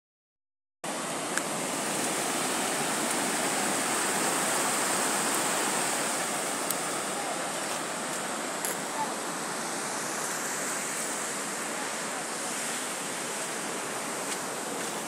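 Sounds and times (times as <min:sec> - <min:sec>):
water rushing over rocks: 0:00.9 - 0:15.0.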